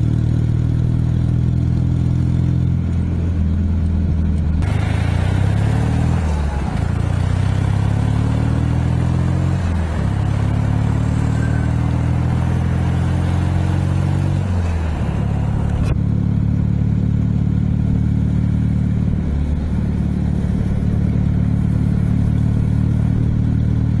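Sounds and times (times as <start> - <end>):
motorcycle engine shifting gears: 0.0 - 24.0.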